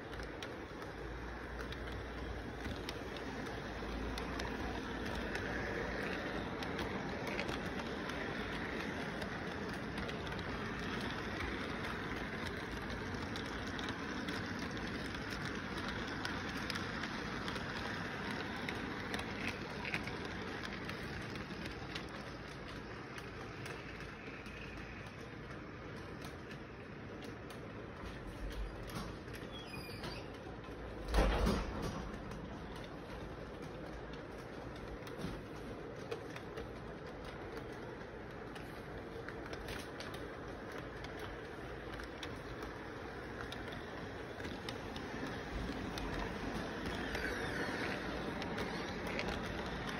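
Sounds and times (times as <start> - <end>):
model train running on track: 0.0 - 49.9
small clicks: 0.0 - 49.9.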